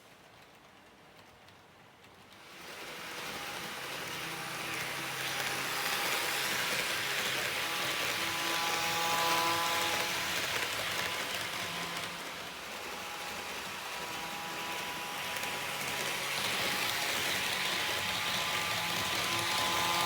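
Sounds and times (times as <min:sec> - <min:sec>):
model train motor whine: 0:02.4 - 0:20.0.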